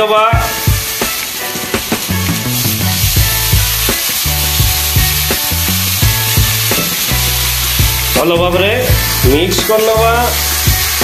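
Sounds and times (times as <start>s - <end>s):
masala sizzling and hissing: 0.3s - 11.0s.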